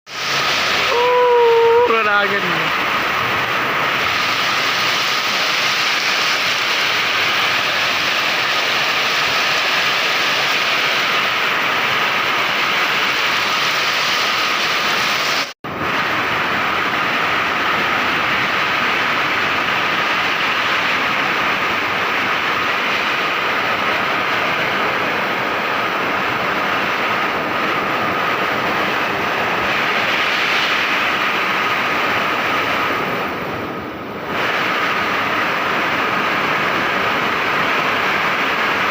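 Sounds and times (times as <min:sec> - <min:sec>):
heavy rain pouring: 0:00.1 - 0:38.9
strong wind: 0:00.1 - 0:38.9.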